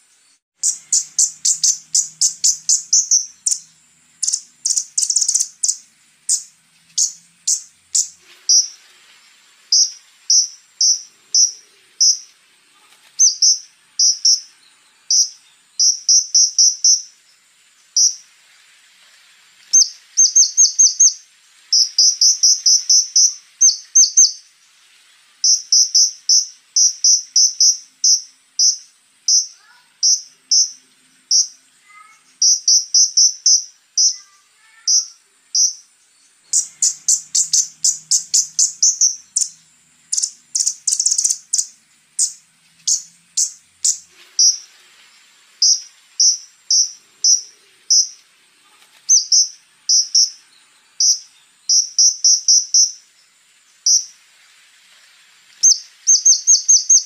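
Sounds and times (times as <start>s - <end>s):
faint steady high whine: 0.0s - 57.0s
bird singing high ticking notes: 0.6s - 8.8s, 9.7s - 12.4s, 13.2s - 18.2s, 19.8s - 24.5s, 25.4s - 31.6s, 32.3s - 44.7s, 45.6s - 48.3s, 49.1s - 53.1s, 53.8s - 54.2s, 55.6s - 57.0s.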